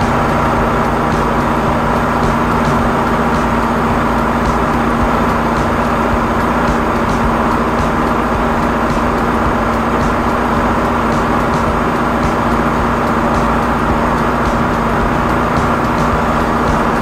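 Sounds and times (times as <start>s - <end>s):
drain cleaning machine engine drone: 0.0s - 17.0s
faint irregular ticking: 0.0s - 17.0s.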